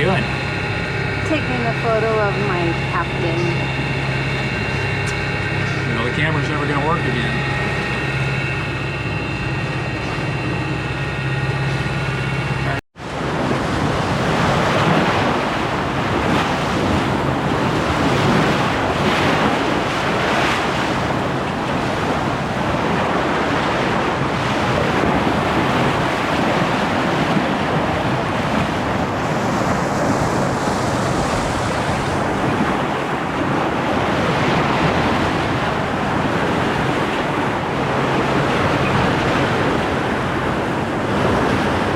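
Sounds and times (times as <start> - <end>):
boat engine droning: 0.0 - 41.9
water rushing along hull: 0.0 - 41.9
wind buffeting microphone: 0.0 - 41.9.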